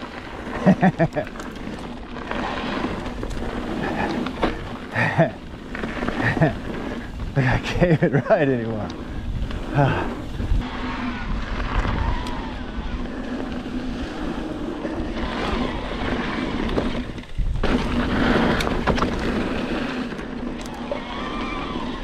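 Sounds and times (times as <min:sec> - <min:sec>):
tyres rolling on dirt: 0:00.0 - 0:22.0
wind rushing over microphone: 0:01.8 - 0:22.0.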